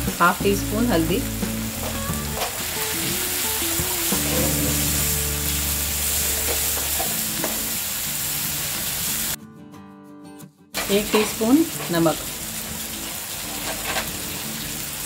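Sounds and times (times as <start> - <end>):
vegetables sizzling in oil: 0.0 - 9.4, 10.8 - 15.0.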